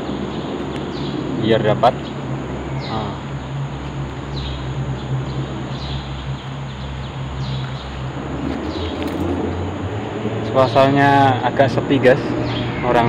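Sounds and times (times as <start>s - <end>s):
bird calling: 0.0s - 13.0s
steady low rumble: 0.0s - 13.0s.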